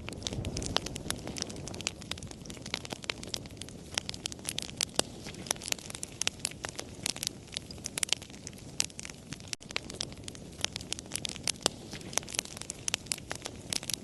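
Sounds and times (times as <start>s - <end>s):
campfire crackling and popping: 0.0s - 14.0s
low rumble of burning: 0.0s - 14.0s.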